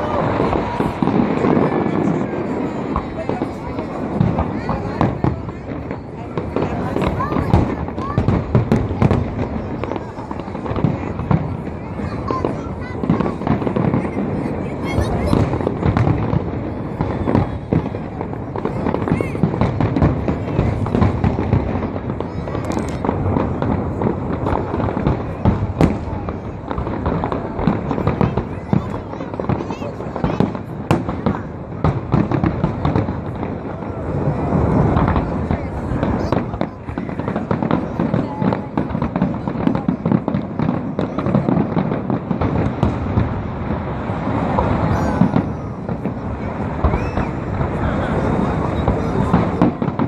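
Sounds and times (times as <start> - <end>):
fireworks booming: 0.0 - 50.0
fireworks crackling and popping: 0.0 - 50.0.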